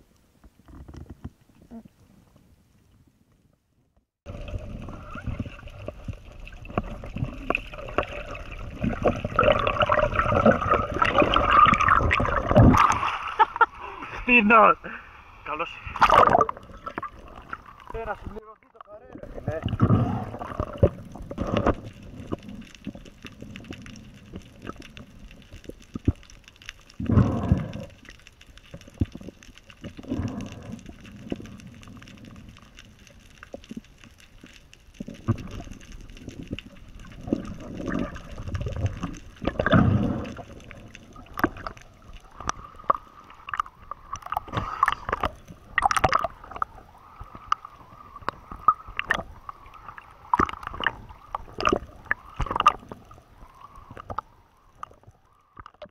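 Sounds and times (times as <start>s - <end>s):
underwater gurgling and sloshing: 0.0s - 55.9s
clicking and splashing: 4.3s - 13.7s, 15.9s - 55.9s.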